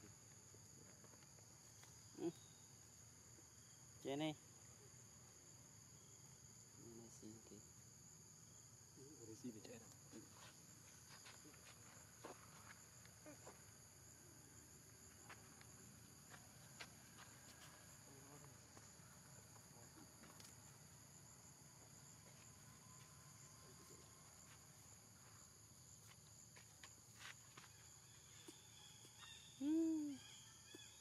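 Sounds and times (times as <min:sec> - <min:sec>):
high drone of insects: 0:00.0 - 0:31.0.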